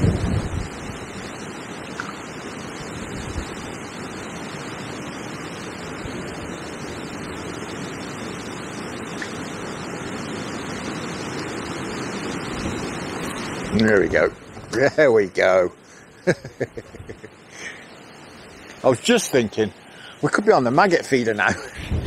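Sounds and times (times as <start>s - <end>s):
gale-force wind rushing: 0.0s - 22.0s
river water flowing: 0.0s - 22.0s.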